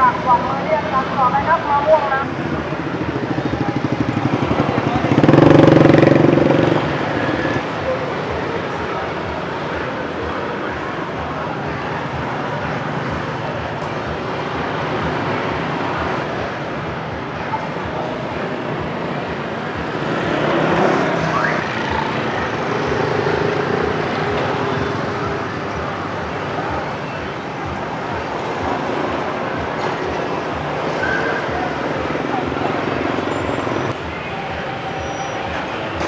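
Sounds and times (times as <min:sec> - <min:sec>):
loud vehicle passing: 0:00.0 - 0:09.8, 0:10.8 - 0:34.2
motorcycles and cars passing: 0:00.0 - 0:36.0.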